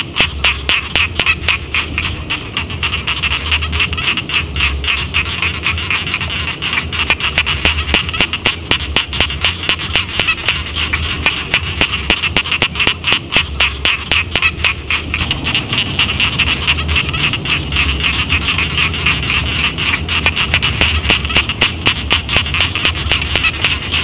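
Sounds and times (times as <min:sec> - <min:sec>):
frogs croaking in chorus: 0:00.0 - 0:24.0
steady low hum: 0:00.0 - 0:24.0.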